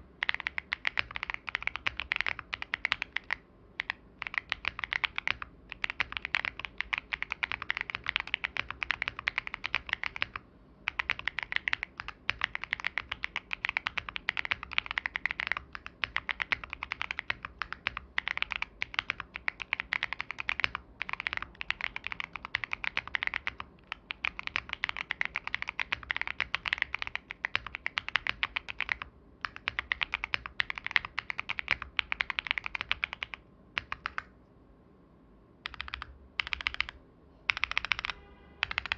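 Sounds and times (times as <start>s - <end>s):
fast typing on mechanical keyboard: 0.0s - 34.3s, 35.6s - 38.9s.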